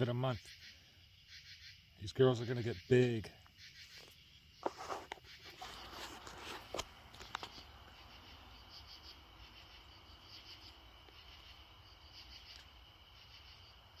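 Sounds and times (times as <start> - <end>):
crickets trilling: 0.0 - 14.0
short pulsed insect chirps: 0.4 - 4.6, 6.9 - 14.0.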